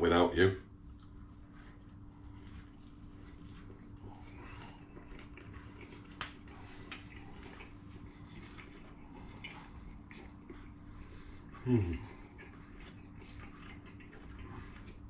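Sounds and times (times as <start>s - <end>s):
low hum: 0.0s - 15.0s
man chewing wet mouth clicks: 0.8s - 15.0s.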